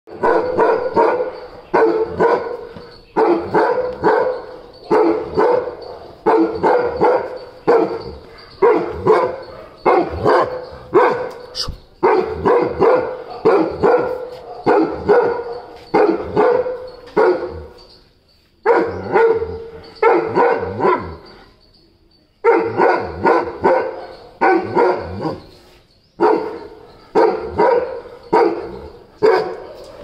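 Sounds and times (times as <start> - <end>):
dog barking: 0.1 - 17.8, 18.6 - 21.3, 22.4 - 25.5, 26.2 - 30.0.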